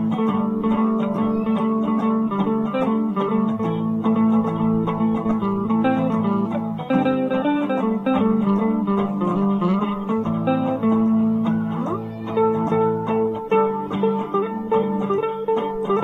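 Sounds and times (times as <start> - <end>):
plucked guitar instrumental: 0.0 - 16.0.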